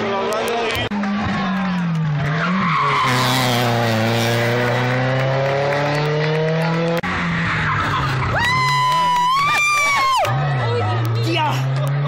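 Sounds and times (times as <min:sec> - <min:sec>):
rally car engine approaching: 0:00.0 - 0:12.0.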